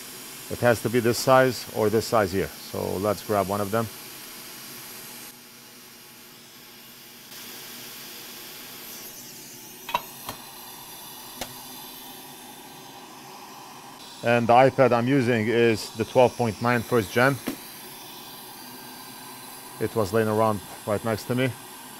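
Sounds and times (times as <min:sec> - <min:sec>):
hiss of blowing air: 0:00.0 - 0:21.9.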